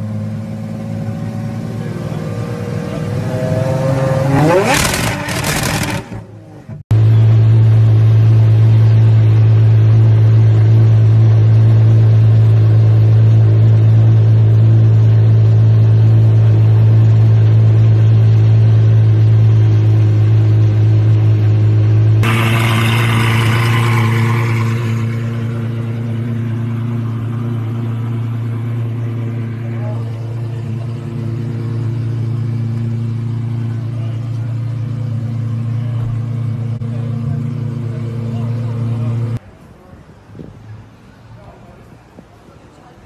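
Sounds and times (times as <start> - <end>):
car engine idling: 4.5 - 42.1.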